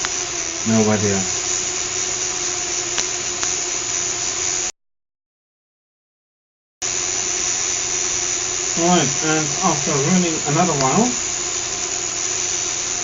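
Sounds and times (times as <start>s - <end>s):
small electric motor whining: 0.0s - 4.7s, 6.9s - 13.0s.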